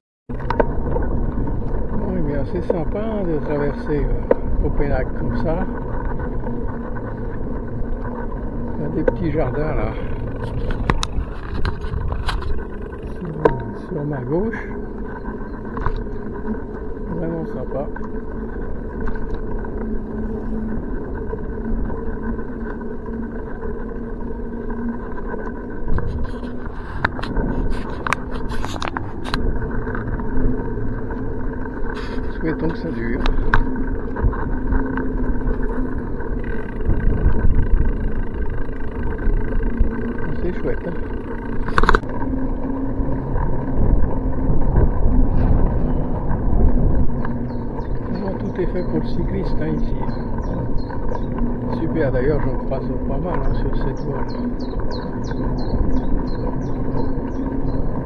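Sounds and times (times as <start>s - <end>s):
bicycle tyres rolling on asphalt: 0.3s - 58.0s
steady hum: 0.3s - 58.0s
wind on microphone: 0.5s - 13.8s, 24.7s - 58.0s.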